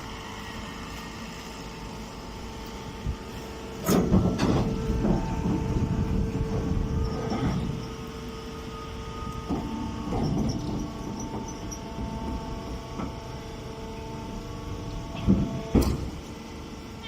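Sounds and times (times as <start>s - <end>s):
baling machine humming: 0.0s - 17.0s.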